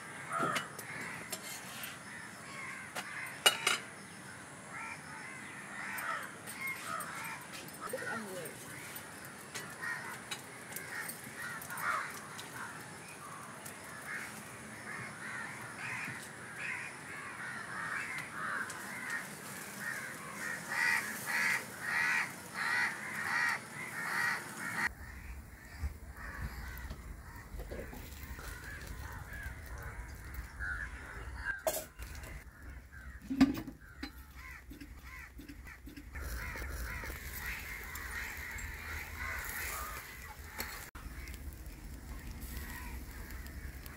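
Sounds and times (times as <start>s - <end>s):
crows cawing: 0.0s - 4.0s, 4.7s - 43.9s.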